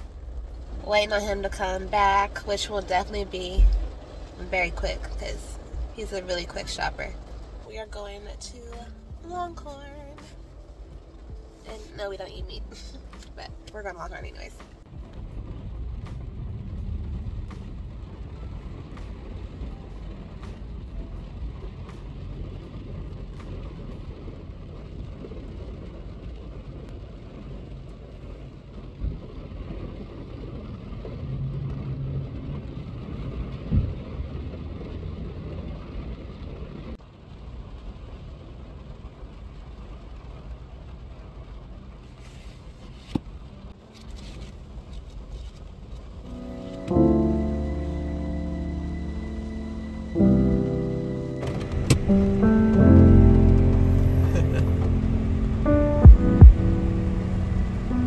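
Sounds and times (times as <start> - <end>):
car idling low rumble: 0.0 - 58.0.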